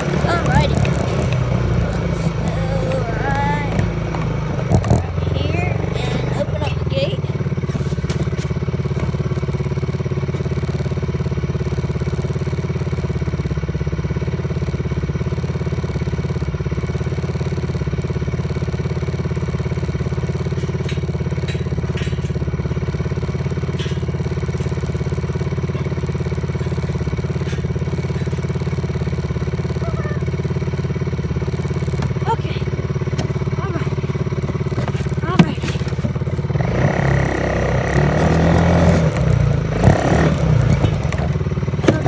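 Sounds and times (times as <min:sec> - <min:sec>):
off-road vehicle engine idling: 0:00.0 - 0:42.0.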